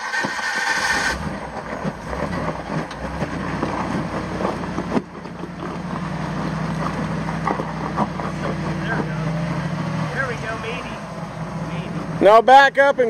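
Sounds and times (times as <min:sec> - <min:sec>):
engine running unevenly: 0:00.0 - 0:13.0.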